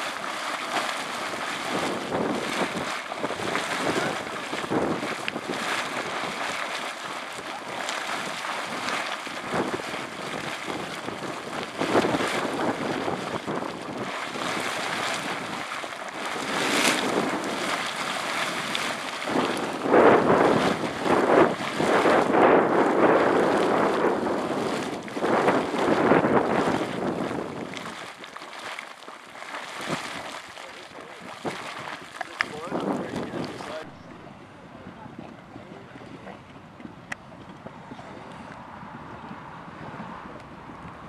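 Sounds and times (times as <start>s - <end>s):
hot spring water churning: 0.0s - 37.6s.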